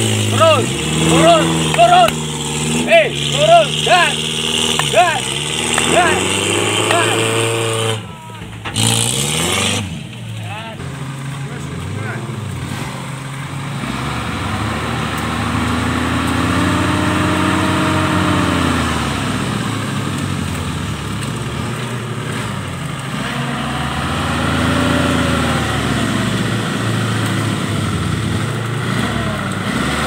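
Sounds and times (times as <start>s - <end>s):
engine revving under load: 0.0s - 30.0s.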